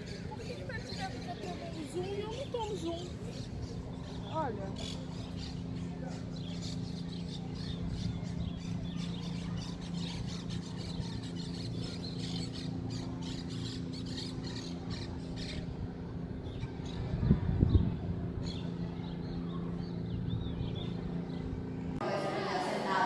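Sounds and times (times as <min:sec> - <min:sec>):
flock of birds chirping: 0:00.0 - 0:21.9
steady low hum: 0:00.0 - 0:23.0.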